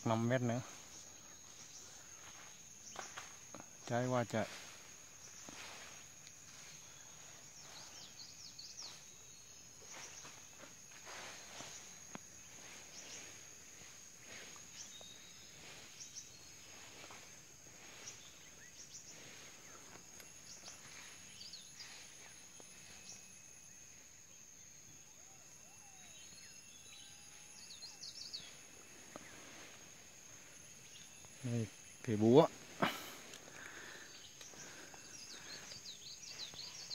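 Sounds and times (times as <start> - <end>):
birds chirping: 0.0 - 36.9
insect drone: 0.0 - 36.9.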